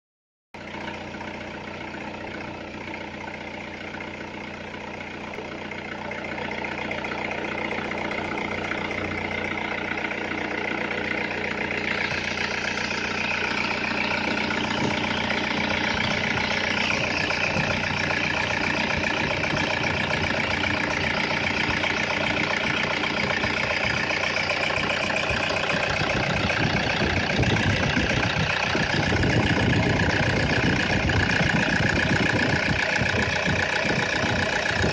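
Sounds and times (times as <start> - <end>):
diesel engine idling: 0.6 - 34.9.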